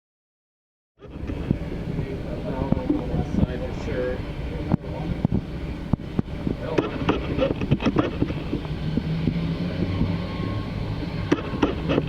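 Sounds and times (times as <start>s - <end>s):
jet engines rumbling: 1.0s - 12.0s
wind buffeting microphone: 1.0s - 12.0s.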